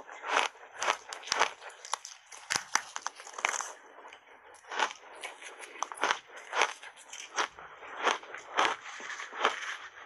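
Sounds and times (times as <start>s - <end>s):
ice crunching in mouth: 0.0s - 10.0s.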